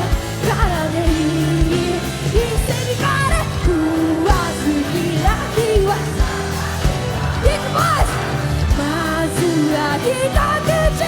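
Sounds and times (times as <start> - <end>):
lead vocal singing: 0.0 - 11.0
pop-rock band playing: 0.0 - 11.0.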